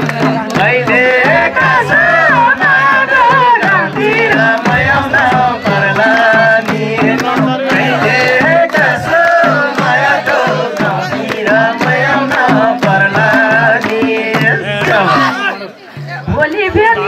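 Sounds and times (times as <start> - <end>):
hand drum rhythm: 0.0 - 17.0.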